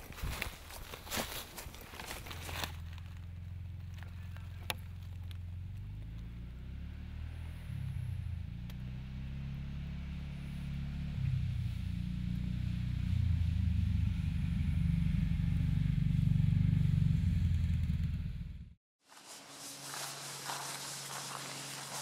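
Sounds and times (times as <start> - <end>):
vehicle engine approaching: 2.1 - 22.0.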